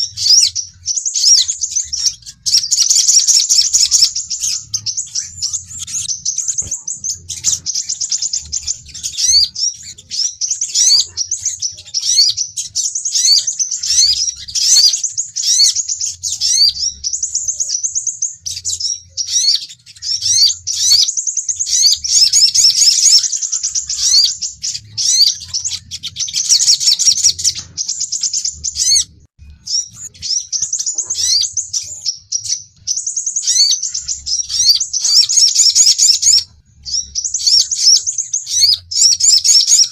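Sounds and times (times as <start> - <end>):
sunbird chirping song: 0.0 - 39.9.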